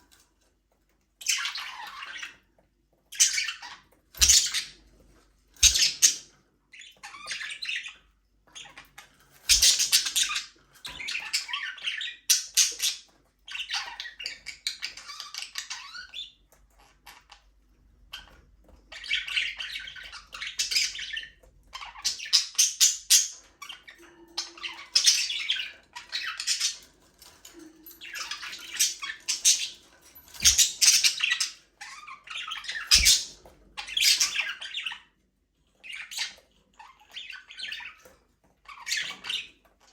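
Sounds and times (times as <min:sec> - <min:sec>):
budgerigars chirping and squawking: 0:01.2 - 0:02.5, 0:03.1 - 0:39.9.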